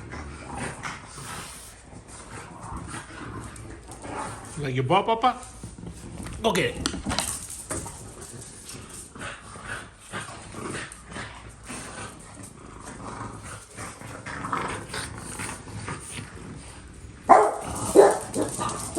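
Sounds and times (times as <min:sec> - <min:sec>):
dog growling softly: 0:00.0 - 0:04.8, 0:07.8 - 0:18.9.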